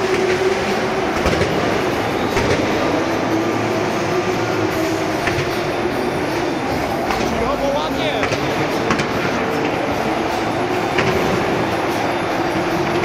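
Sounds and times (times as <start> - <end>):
vehicle rumbling: 0.0 - 13.0
wavering motor whine: 0.0 - 13.0.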